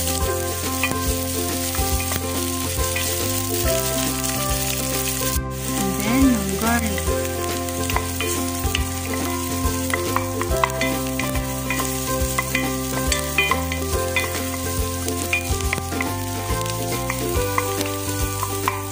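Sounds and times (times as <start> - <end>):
onion and garlic sizzling in oil: 0.0 - 18.9
wooden spoon tapping and scraping pot: 0.2 - 3.6, 6.7 - 18.9.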